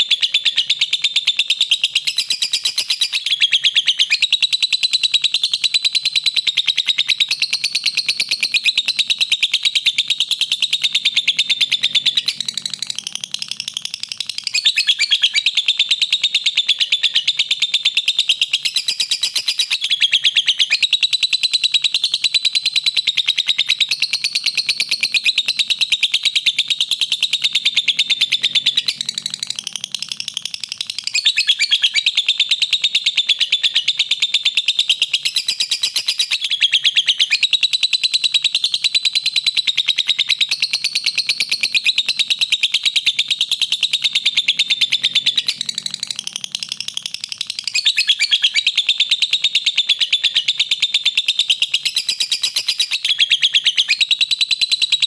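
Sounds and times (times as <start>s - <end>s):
lovebird trilling: 0.0s - 54.9s.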